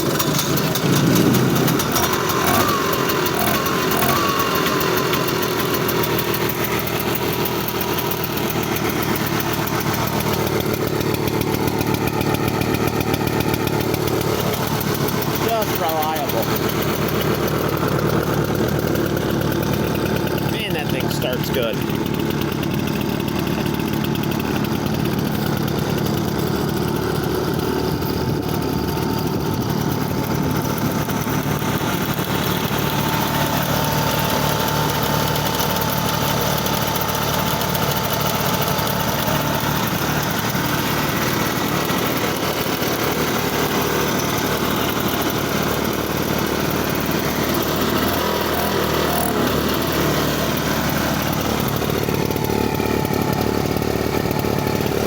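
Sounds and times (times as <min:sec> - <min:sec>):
snowmobile engine idling: 0:00.0 - 0:55.0.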